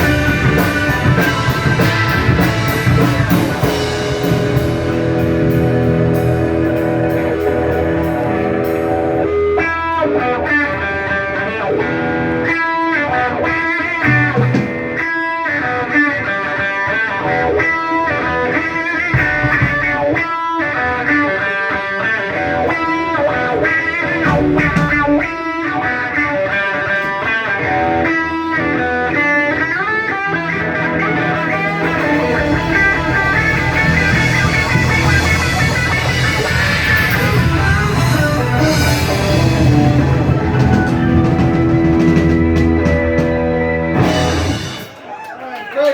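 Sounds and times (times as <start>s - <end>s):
electric guitar runs: 0.0s - 45.0s
rock band playing: 0.0s - 45.4s.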